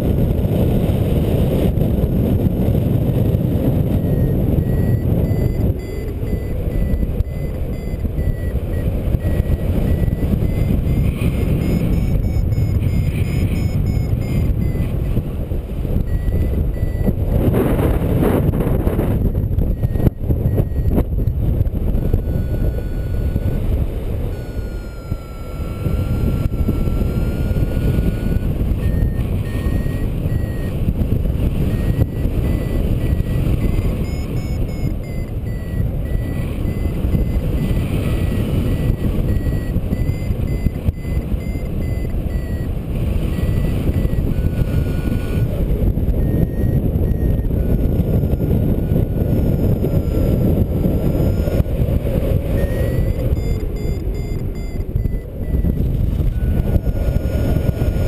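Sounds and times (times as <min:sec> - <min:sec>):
airflow rushing over microphone: 0:00.0 - 0:58.0
steady low variometer tone: 0:00.0 - 0:58.0
variometer beeping: 0:00.1 - 0:58.0.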